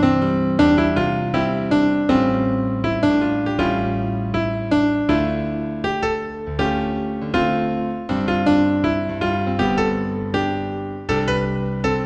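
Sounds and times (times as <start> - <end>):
solo piano: 0.0 - 12.0.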